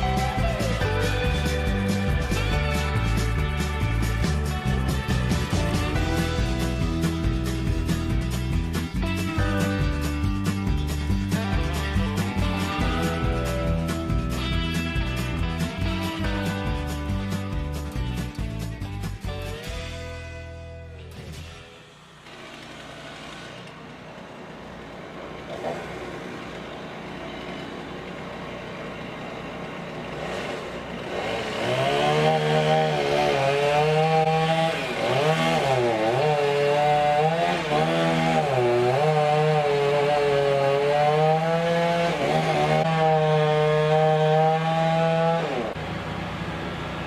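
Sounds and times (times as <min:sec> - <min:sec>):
chainsaw engine cutting: 0:00.0 - 0:19.9, 0:21.1 - 0:47.0.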